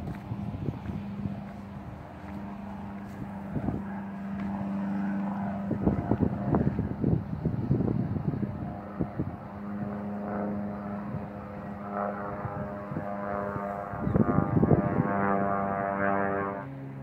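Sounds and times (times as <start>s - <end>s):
propeller airplane engine drone: 0.0s - 17.0s
wind buffeting microphone: 0.0s - 17.0s.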